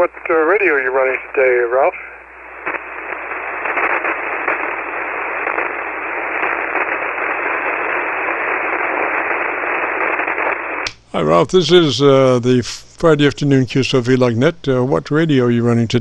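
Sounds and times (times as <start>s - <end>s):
radio receiver band noise hiss: 0.0s - 16.0s.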